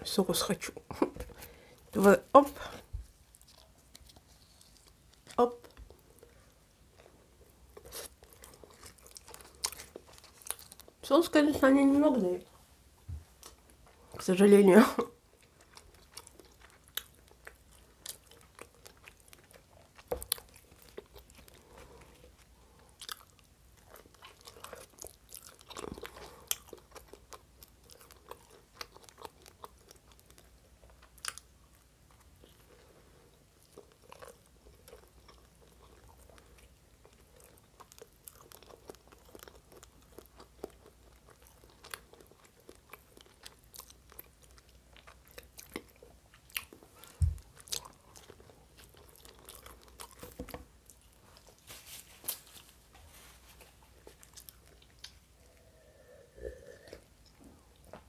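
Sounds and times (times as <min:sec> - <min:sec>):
person chewing pizza: 0:00.9 - 0:11.0, 0:15.1 - 0:58.0.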